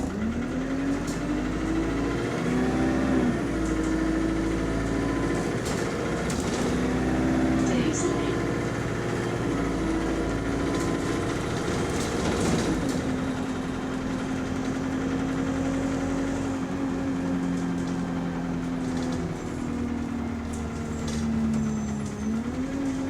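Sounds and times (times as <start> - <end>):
bus diesel engine under way: 0.0 - 23.0.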